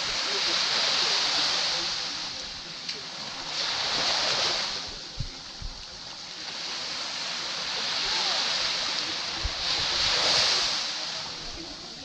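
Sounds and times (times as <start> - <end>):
small waves washing onto beach: 0.0 - 12.0.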